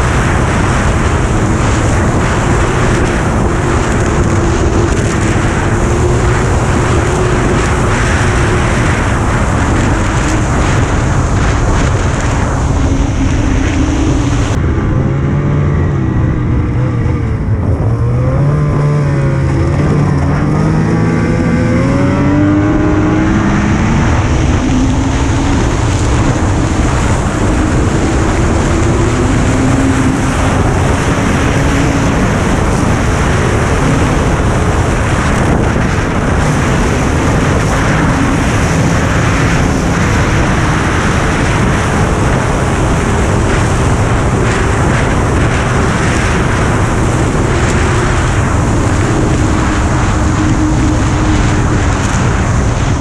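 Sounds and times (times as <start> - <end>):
off-road vehicle engine running: 0.0 - 53.0
wind rush and travel noise: 0.0 - 53.0.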